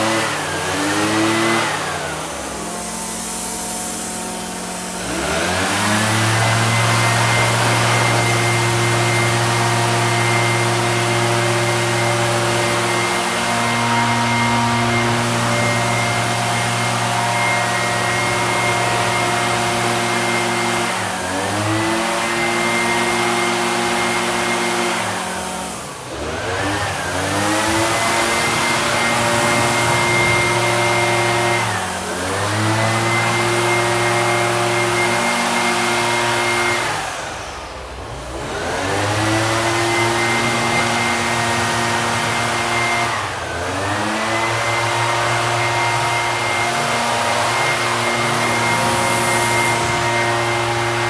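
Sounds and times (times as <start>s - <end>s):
two-stroke engine revving: 0.0s - 51.0s.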